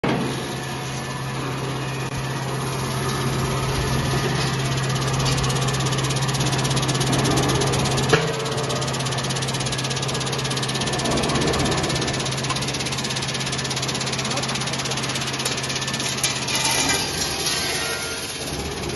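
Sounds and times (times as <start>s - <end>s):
vibrating screen drive hum: 0.5s - 18.9s.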